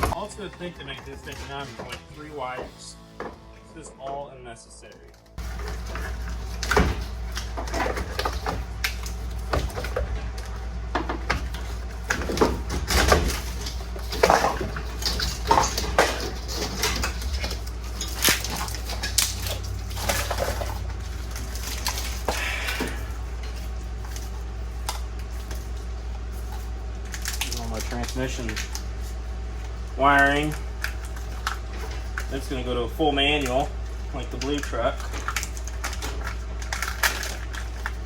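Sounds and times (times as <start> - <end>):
steady low hum: 0.0 - 38.0
wiring connectors clicking and rattling: 4.9 - 38.0.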